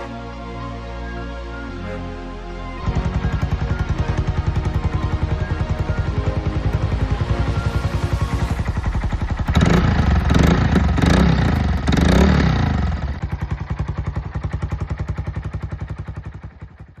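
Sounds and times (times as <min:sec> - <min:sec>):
motorcycle engine idling and revving: 0:02.8 - 0:17.0.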